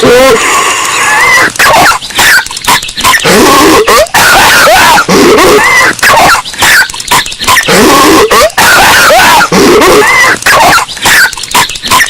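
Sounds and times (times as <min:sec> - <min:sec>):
distorted cartoon coughing: 0:00.0 - 0:12.0.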